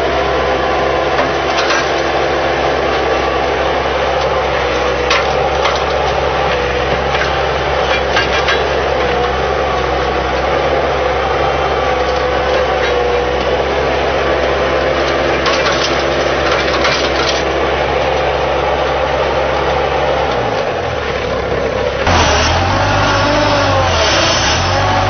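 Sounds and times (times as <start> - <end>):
loader engine running: 0.0 - 25.0.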